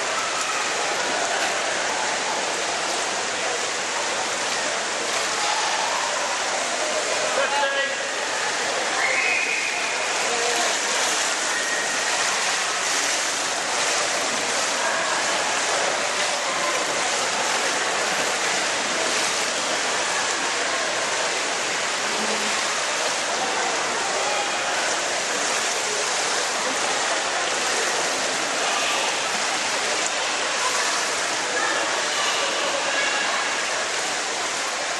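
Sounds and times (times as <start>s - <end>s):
rushing pool water: 0.0s - 34.9s.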